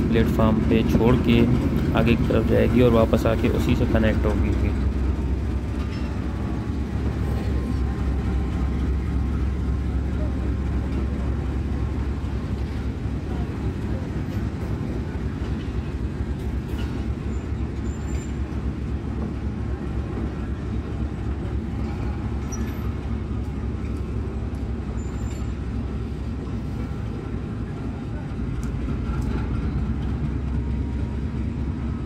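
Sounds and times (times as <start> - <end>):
diesel locomotive rumbling: 0.0 - 32.0
train wheels rolling over track: 0.0 - 32.0.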